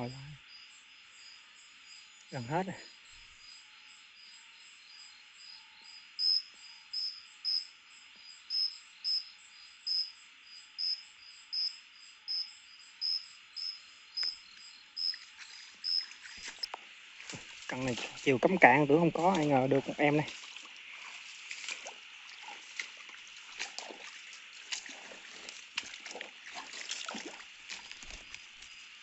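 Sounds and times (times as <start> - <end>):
crickets chorus: 0.0 - 29.0
insect chirping loudly: 0.0 - 29.0.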